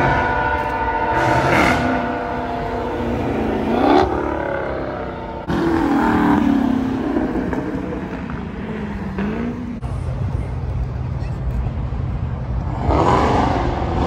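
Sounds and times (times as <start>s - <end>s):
car engine revving: 0.0s - 10.1s, 12.4s - 14.0s.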